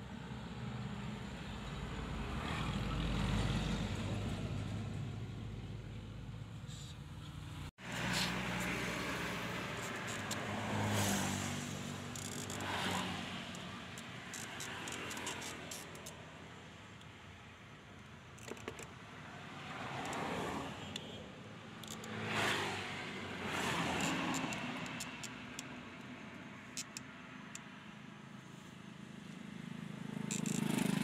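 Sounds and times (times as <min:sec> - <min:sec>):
vehicle engine humming: 0:00.8 - 0:28.4.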